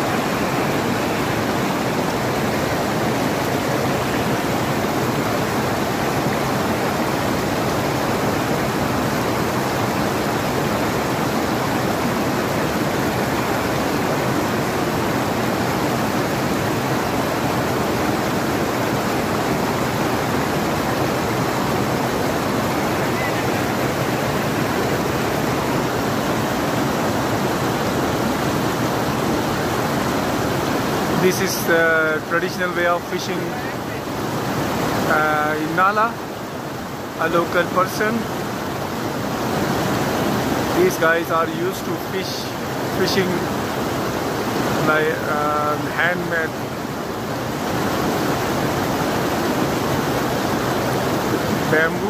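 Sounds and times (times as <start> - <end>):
stream rushing over boulders: 0.0 - 52.0.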